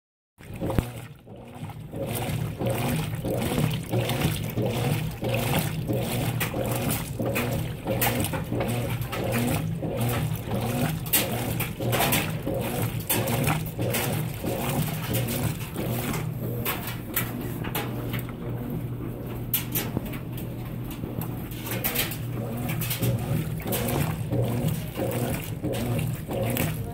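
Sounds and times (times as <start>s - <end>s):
washing machine motor hum: 0.4s - 26.9s
water swishing and sloshing: 0.4s - 26.9s.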